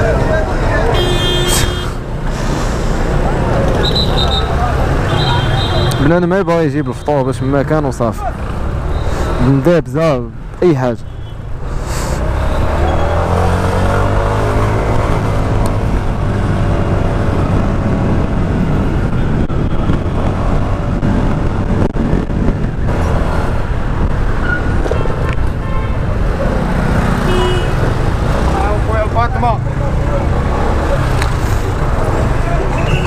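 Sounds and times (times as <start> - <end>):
rushing wind and road noise: 0.0 - 33.0.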